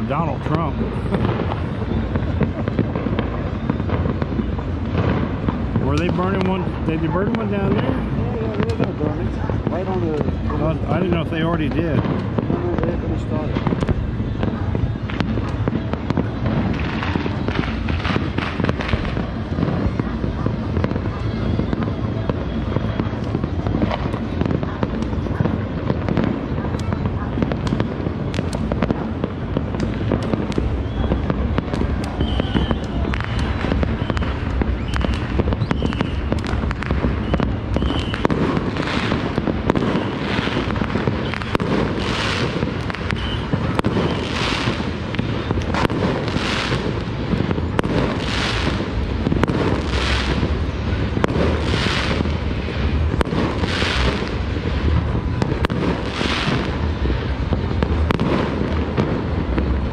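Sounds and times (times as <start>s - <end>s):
distant fireworks crackling: 0.0s - 59.9s.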